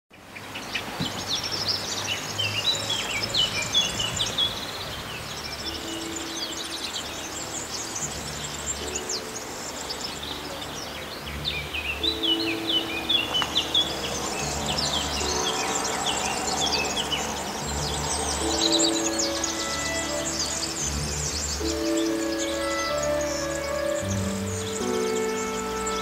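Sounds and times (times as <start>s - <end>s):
background hiss: 0.1s - 26.0s
songbirds chirping: 0.1s - 26.0s
low steady tones: 1.7s - 26.0s.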